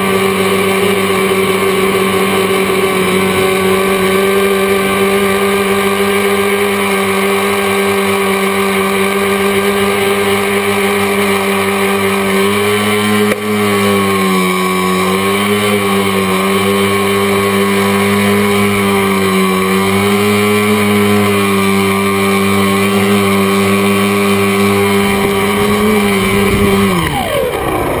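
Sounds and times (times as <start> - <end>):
electric motors and propellers humming: 0.0 - 28.0.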